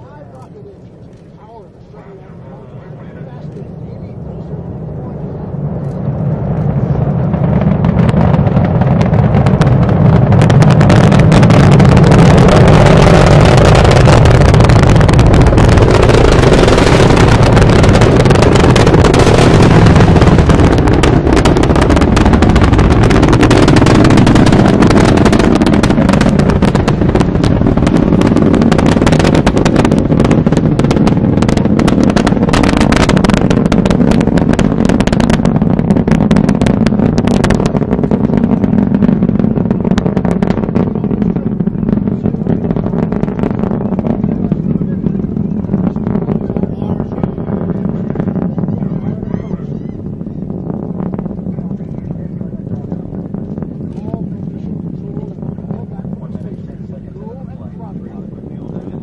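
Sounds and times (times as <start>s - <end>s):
rocket launch rumble with crackling: 0.0s - 59.0s.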